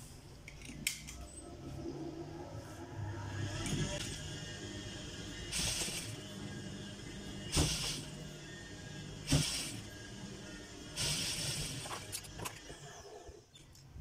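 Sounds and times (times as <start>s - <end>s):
motor hum: 1.3s - 14.0s.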